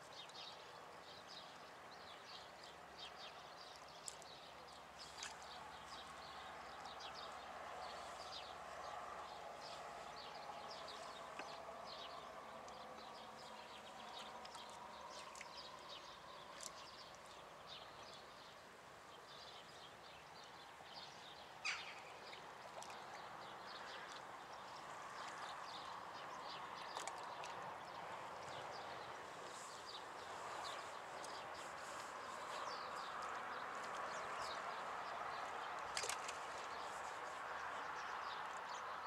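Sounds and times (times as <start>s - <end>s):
faint outdoor background: 0.0s - 39.0s
small birds chirping: 0.0s - 39.0s.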